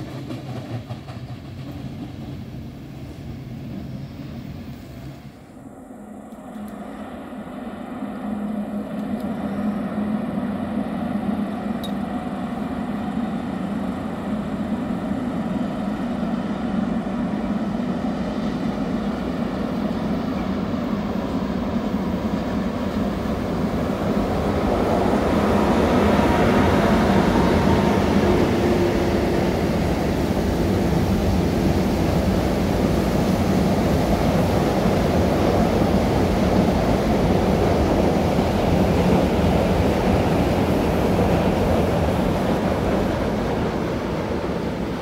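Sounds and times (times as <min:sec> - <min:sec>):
freight train rumbling on rails: 0:00.0 - 0:45.0.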